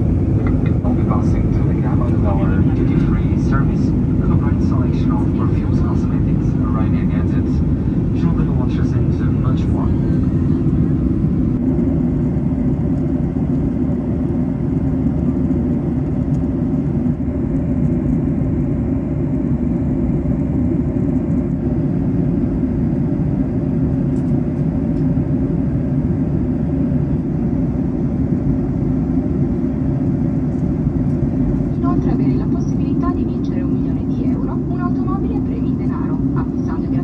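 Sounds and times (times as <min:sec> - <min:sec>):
aircraft cabin engine rumble: 0:00.0 - 0:37.0.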